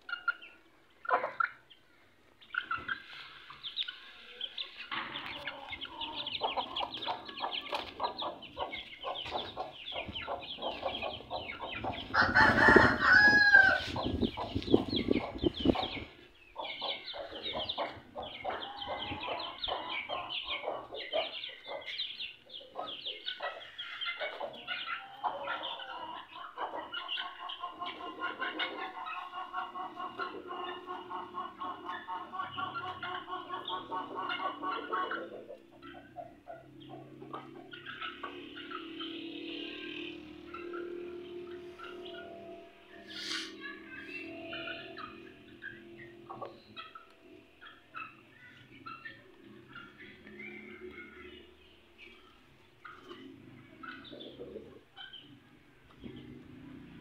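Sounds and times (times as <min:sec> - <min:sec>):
chicks peeping and clucking: 0:00.0 - 0:57.0.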